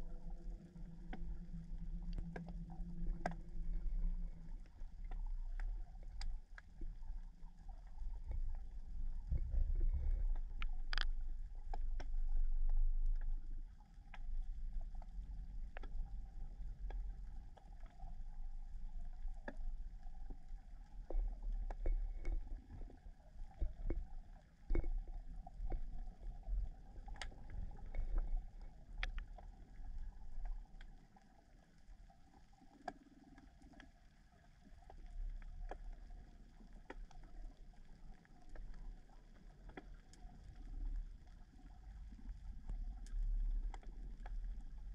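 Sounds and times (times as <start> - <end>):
underwater water rumble: 0.0 - 44.9.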